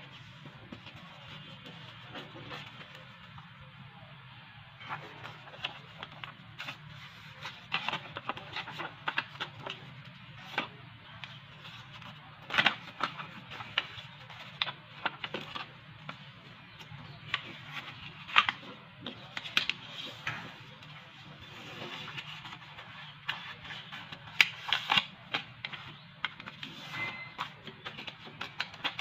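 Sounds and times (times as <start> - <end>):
paper folding and crinkling: 0.0 - 3.4, 4.8 - 29.0.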